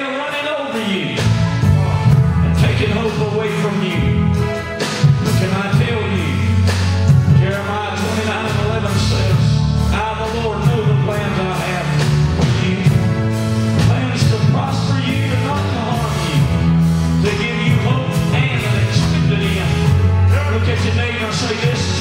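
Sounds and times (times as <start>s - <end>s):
band playing: 0.0s - 22.0s
person singing: 0.0s - 22.0s.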